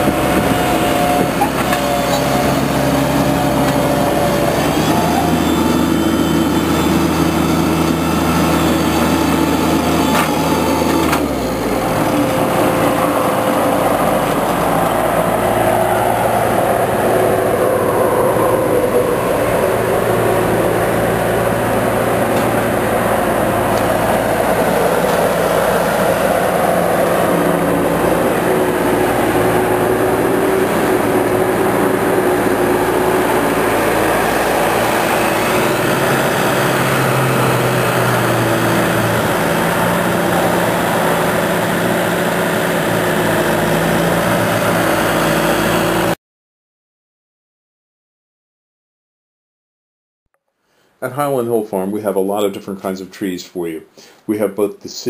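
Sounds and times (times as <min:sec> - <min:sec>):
machinery engine running: 0:00.0 - 0:46.2.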